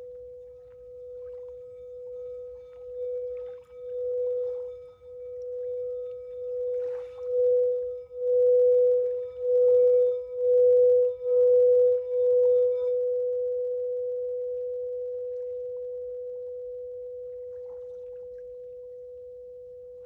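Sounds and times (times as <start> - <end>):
singing bowl ringing: 0.0 - 20.0.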